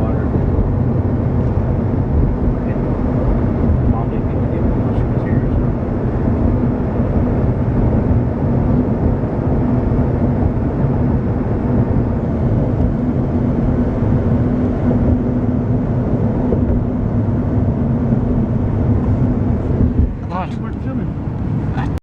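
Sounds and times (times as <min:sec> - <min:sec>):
car road and engine drone: 0:00.0 - 0:22.0.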